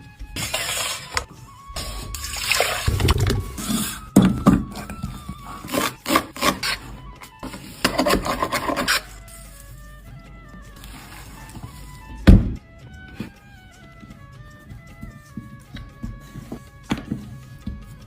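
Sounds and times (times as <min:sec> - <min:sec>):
rubbing and scraping in kitchen: 0:00.0 - 0:09.9, 0:10.7 - 0:12.5, 0:14.0 - 0:18.0
soft background music: 0:00.0 - 0:18.0.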